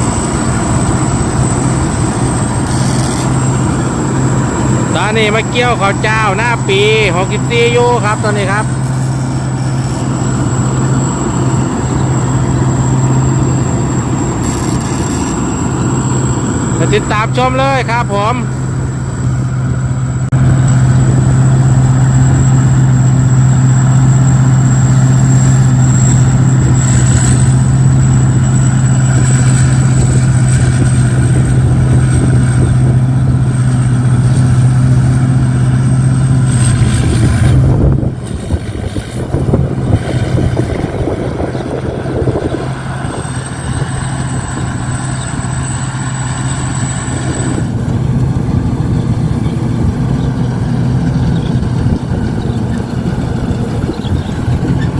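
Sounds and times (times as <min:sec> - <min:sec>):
combine harvester engine running: 0:00.0 - 0:54.9
thin high whine: 0:00.0 - 0:54.9.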